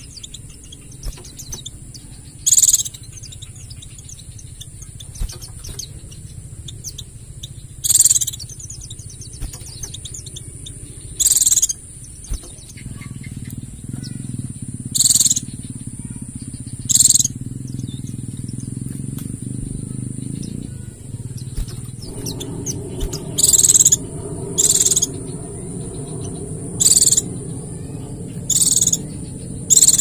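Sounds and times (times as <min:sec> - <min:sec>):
high-pitched bird song bursts: 0:00.0 - 0:13.4, 0:15.0 - 0:15.6, 0:16.6 - 0:18.6, 0:19.8 - 0:30.0
bird twittering in light chips: 0:00.0 - 0:30.0
high insect-like whine: 0:00.0 - 0:30.0
low hum: 0:00.0 - 0:30.0.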